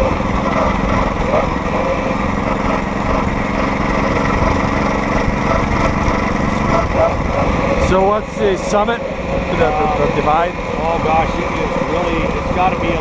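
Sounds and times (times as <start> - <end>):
small gasoline engine drone: 0.0 - 13.0.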